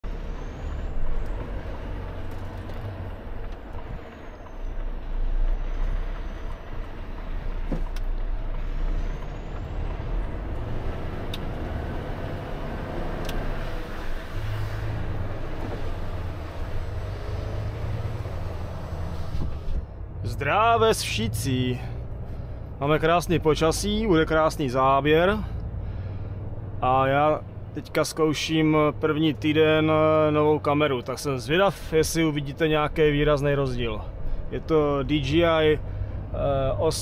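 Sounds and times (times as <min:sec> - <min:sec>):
diesel engine rumble: 0:00.0 - 0:37.0
road noise: 0:00.0 - 0:37.0.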